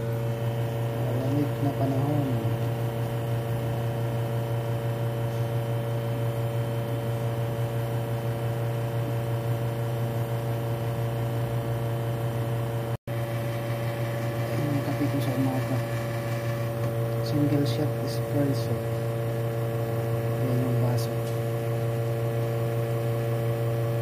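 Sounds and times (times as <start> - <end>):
espresso machine humming: 0.0 - 24.0.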